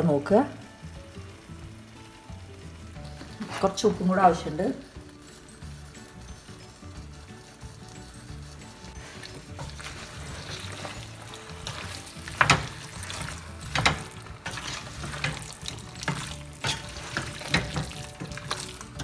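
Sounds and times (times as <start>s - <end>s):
faint sizzle: 0.0s - 19.0s
spatula stirring mash: 0.9s - 19.0s.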